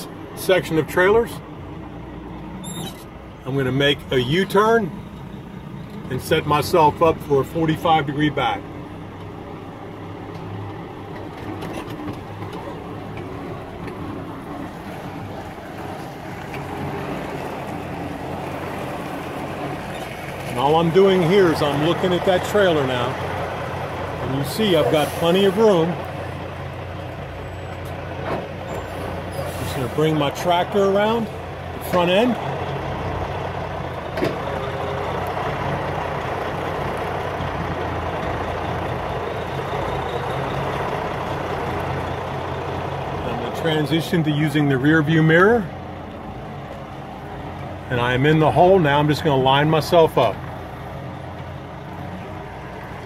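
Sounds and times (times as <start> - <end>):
diesel engine humming: 0.0 - 53.0.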